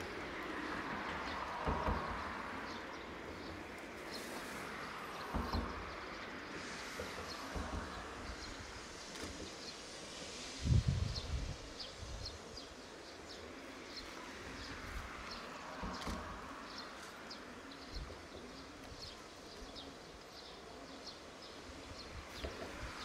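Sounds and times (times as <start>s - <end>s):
small birds chirping: 0.0s - 23.0s
steam hissing from locomotive: 0.0s - 23.0s.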